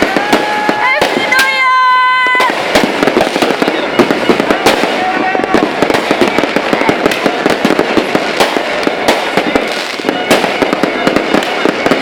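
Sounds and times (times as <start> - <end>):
fireworks crackling barrage: 0.0 - 12.0.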